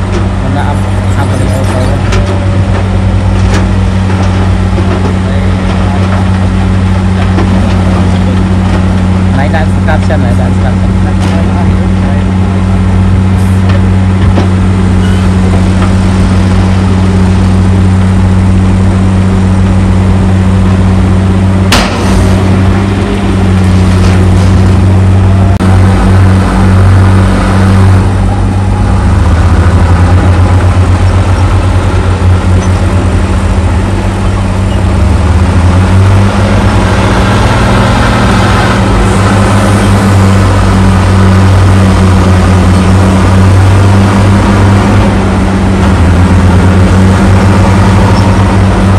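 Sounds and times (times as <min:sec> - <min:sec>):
heavy diesel engines droning: 0:00.0 - 0:48.9.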